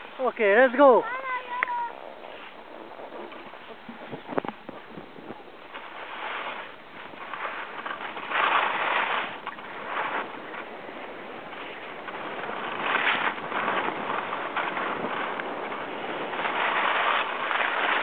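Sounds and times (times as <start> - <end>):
skis scraping over snow: 0.0 - 18.0.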